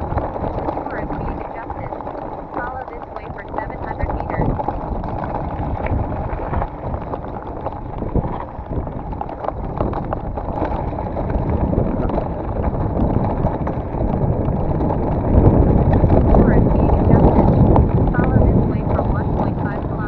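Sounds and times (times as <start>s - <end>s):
bike rattling over bumps: 0.0s - 20.0s
tyres crunching over stones: 0.0s - 20.0s
wind buffeting microphone: 0.0s - 20.0s.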